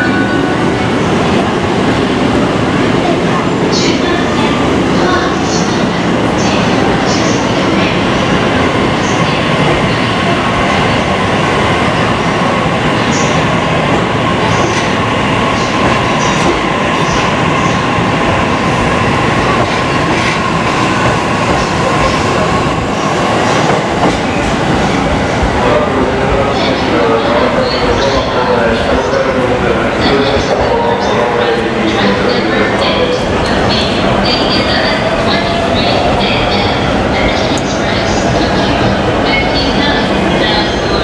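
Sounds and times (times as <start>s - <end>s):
train wheels rumbling on rail: 0.6s - 41.0s.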